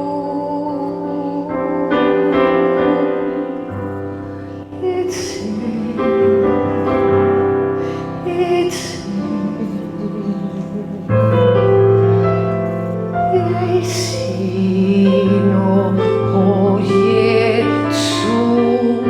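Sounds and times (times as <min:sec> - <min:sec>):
soft worship music on keyboard: 0:00.0 - 0:19.0.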